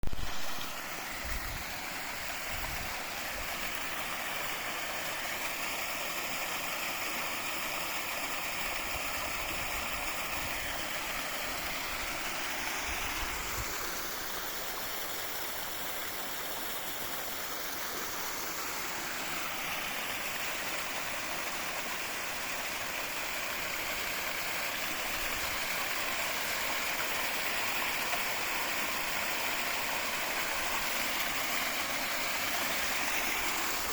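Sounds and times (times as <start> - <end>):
spring water rushing: 0.0 - 33.9.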